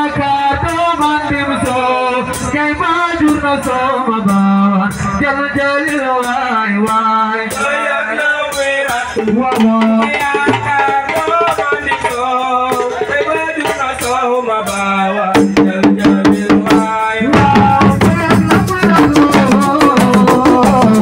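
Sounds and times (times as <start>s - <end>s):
drums and rattles: 0.0s - 21.0s.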